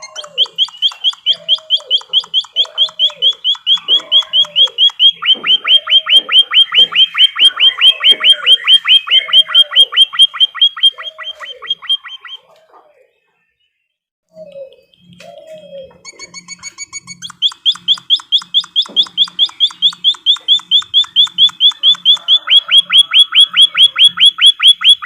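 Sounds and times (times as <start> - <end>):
fast high bird chirps: 0.0 - 12.6, 14.3 - 25.0
lower falling bird call: 0.0 - 13.1, 14.3 - 25.0.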